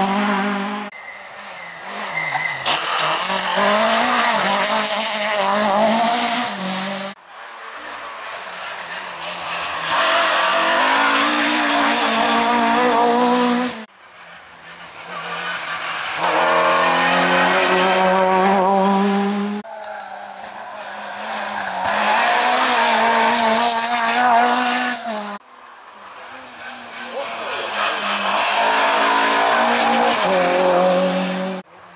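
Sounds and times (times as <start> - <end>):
rally cars passing at high revs: 0.0 - 31.9.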